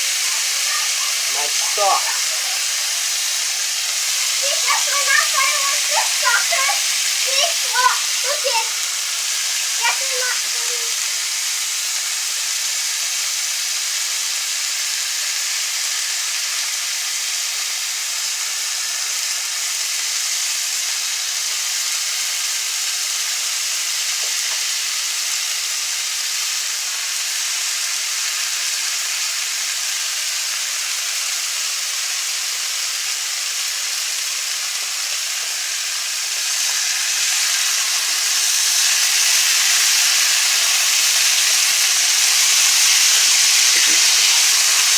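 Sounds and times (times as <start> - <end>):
stir fry sizzling in a pan: 0.0 - 44.9.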